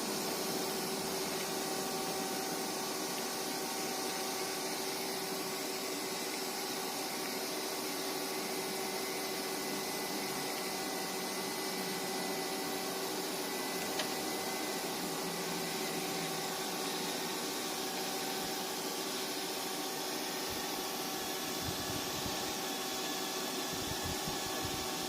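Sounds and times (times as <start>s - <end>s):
lathe machine hum: 0.0s - 25.0s.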